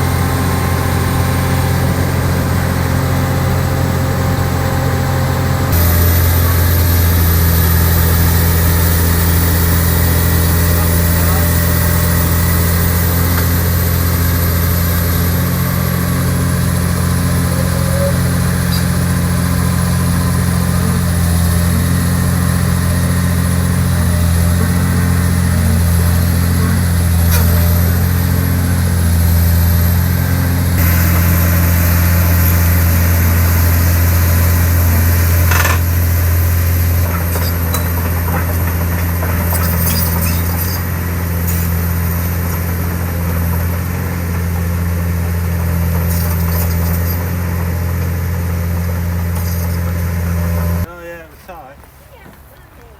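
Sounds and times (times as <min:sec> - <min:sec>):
diesel engine humming: 0:00.0 - 0:52.9.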